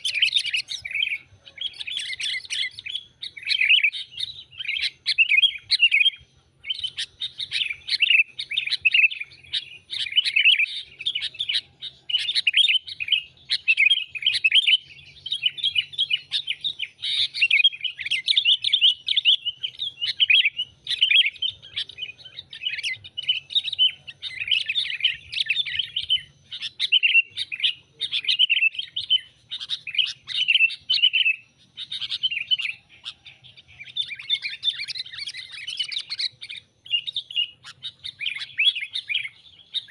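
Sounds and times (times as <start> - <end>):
bulbuls chattering chirps: 0.0 - 39.9.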